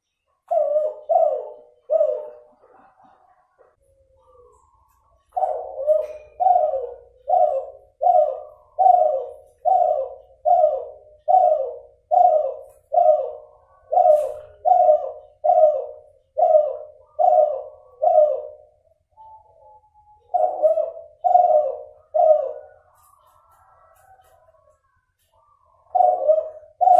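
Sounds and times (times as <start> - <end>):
dove cooing: 0.0 - 26.9.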